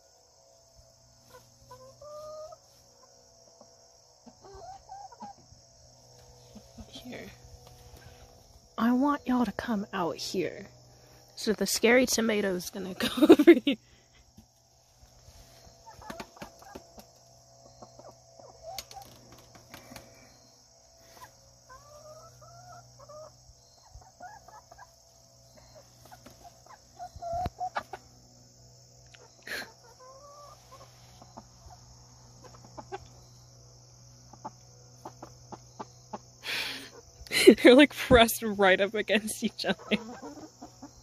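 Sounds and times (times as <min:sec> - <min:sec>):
insects chirring: 0:00.0 - 0:41.0
chickens clucking: 0:01.0 - 0:09.0, 0:14.3 - 0:41.0.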